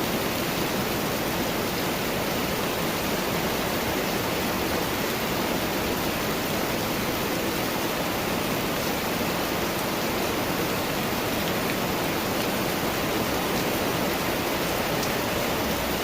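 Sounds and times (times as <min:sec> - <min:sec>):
steady rain hissing: 0:00.0 - 0:16.0.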